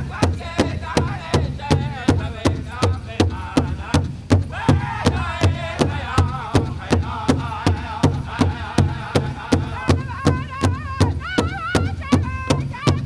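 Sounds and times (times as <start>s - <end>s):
big drum steady beat: 0.0s - 13.0s
drum group singing: 0.0s - 13.0s
higher voice singing: 0.0s - 13.0s.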